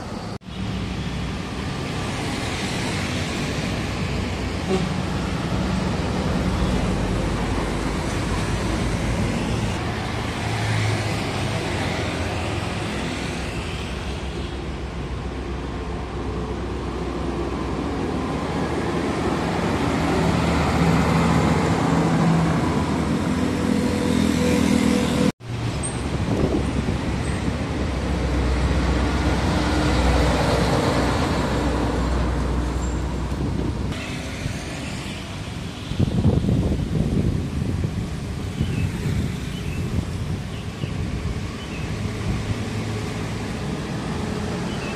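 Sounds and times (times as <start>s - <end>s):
diesel trucks driving past: 0.0s - 44.9s.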